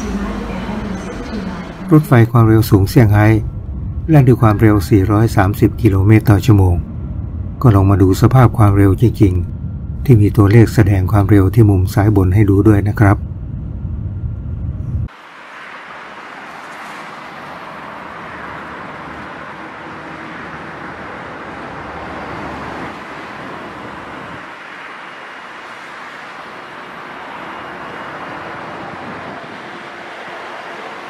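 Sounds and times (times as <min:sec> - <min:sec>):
expressway traffic: 0:00.0 - 0:31.0
train rushing noise inside cabin: 0:00.0 - 0:31.0.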